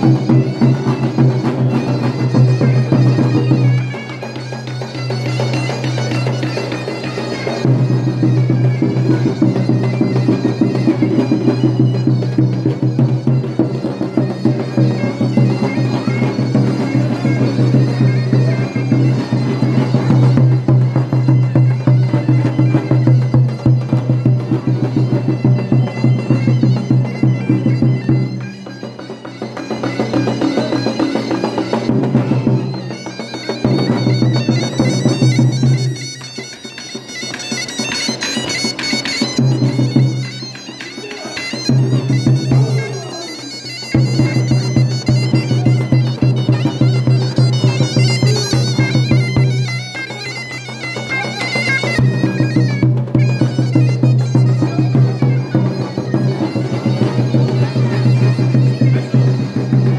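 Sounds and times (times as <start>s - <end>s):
shawm melody: 0.0s - 59.9s.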